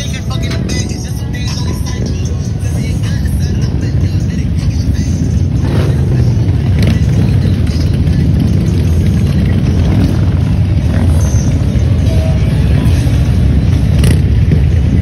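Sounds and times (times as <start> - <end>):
motorcycles rumbling past: 2.8 - 15.0.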